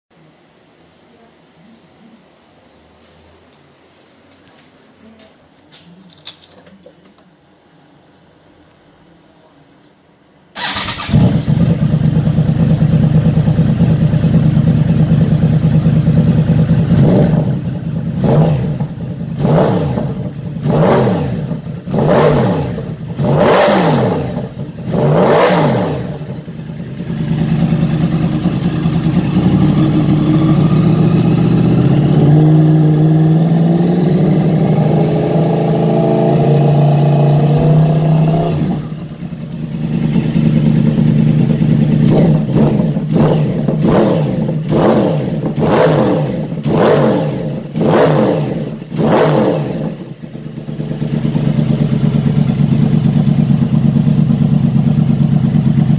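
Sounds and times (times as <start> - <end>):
motorcycle engine idling and revving: 10.6 - 55.9.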